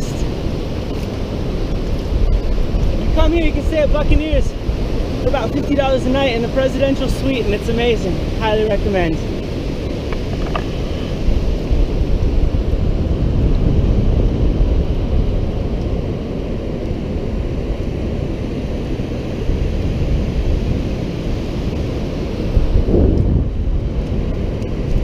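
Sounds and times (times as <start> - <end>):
ocean surf breaking on beach: 0.0 - 25.0
wind rumbling on microphone: 0.0 - 25.0.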